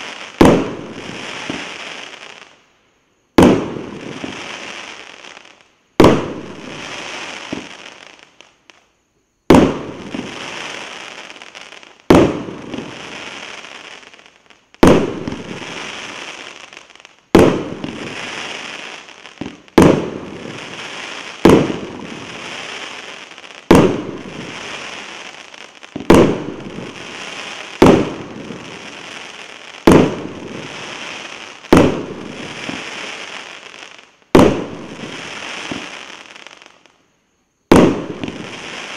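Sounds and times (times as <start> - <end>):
firework bangs: 0.0 - 2.5, 3.3 - 8.8, 9.5 - 36.8, 37.7 - 38.9
firework hiss: 0.0 - 8.9, 9.5 - 37.0, 37.7 - 38.9.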